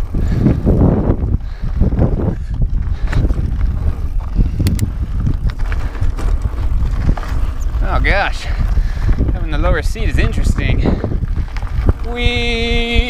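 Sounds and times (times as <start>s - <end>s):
bike rolling on gravel: 0.0s - 13.0s
wind buffeting microphone: 0.0s - 13.0s.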